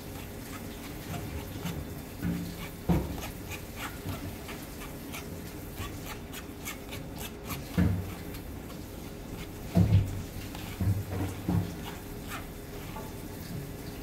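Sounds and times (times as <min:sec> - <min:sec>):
spoon scraping wire strainer: 0:00.0 - 0:13.1.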